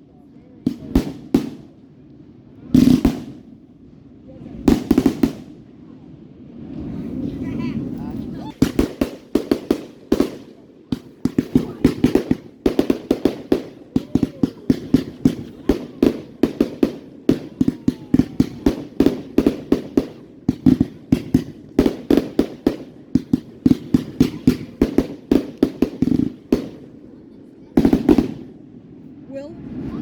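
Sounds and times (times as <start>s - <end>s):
fireworks bangs: 0.6s - 1.8s, 2.6s - 3.6s, 4.4s - 5.7s, 7.2s - 29.9s.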